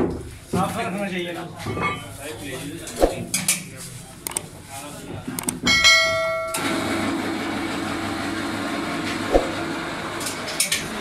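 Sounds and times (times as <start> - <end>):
busy shop background noise: 0.0 - 11.0.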